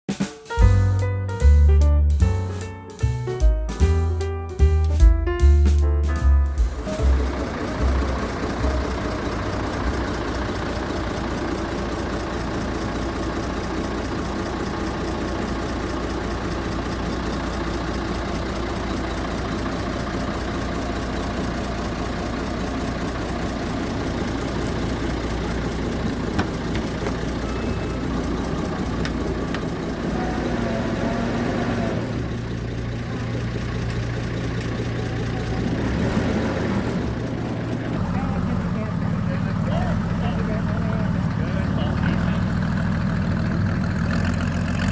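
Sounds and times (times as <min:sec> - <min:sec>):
engine running with low hum: 0:03.8 - 0:44.9.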